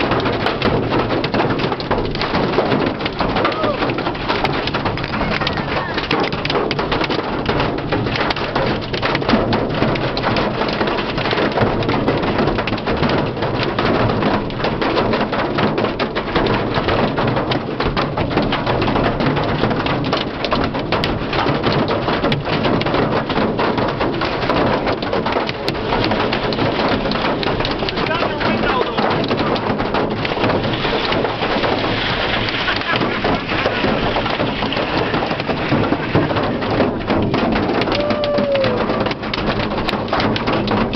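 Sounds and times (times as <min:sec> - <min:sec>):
hail pelting a car roof: 0:00.0 - 0:40.9.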